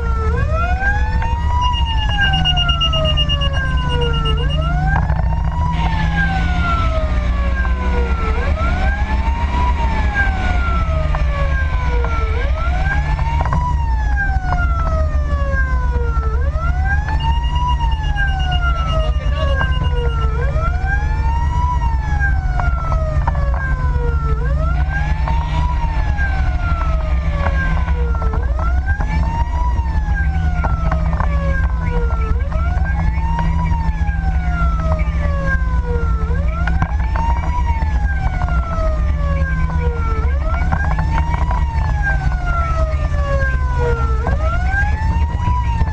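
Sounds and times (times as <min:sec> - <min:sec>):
fire engine siren wailing: 0:00.0 - 0:45.9
truck engine and road rumble: 0:00.0 - 0:45.9.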